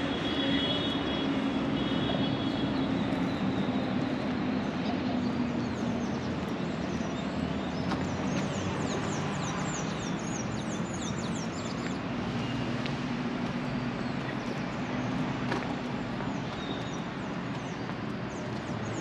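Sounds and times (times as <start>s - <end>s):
street traffic engines: 0.0s - 19.0s.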